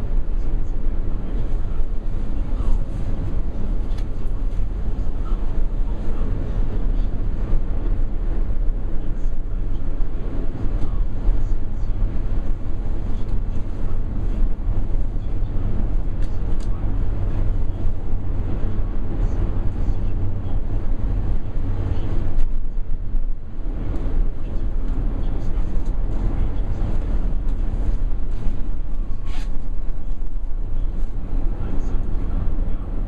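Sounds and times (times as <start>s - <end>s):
cable car cabin rumble and hum: 0.0s - 33.0s.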